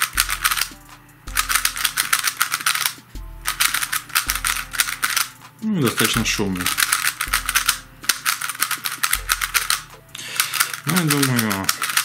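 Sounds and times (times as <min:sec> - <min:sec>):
puzzle cube clicking: 0:00.0 - 0:12.0.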